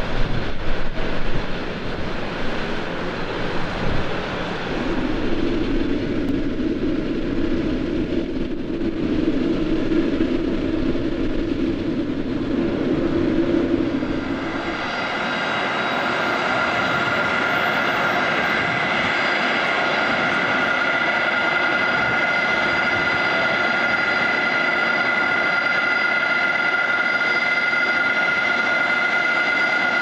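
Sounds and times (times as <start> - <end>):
broad rush of jet noise: 0.0 - 30.0
jet engines low hum: 0.0 - 30.0.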